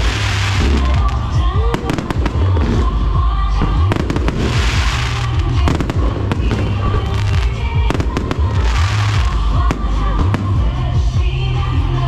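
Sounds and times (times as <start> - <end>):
fireworks bangs: 0.0 - 11.0
fireworks crackling: 0.0 - 11.2
loud music with heavy bass: 0.0 - 12.0.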